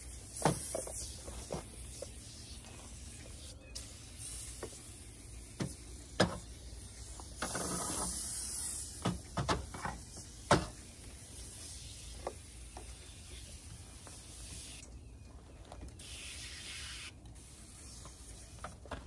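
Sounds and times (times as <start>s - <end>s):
aerosol can spraying: 0.0s - 14.8s, 16.0s - 18.6s.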